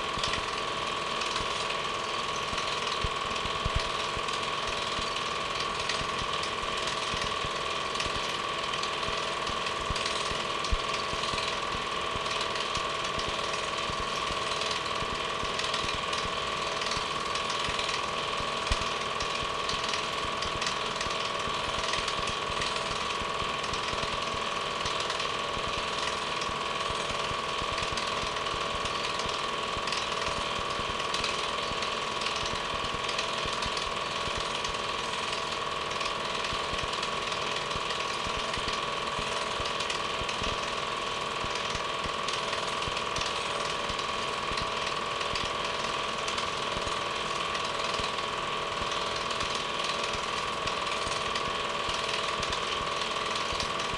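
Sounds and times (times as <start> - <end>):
film projector clattering and whirring: 0.0 - 53.9.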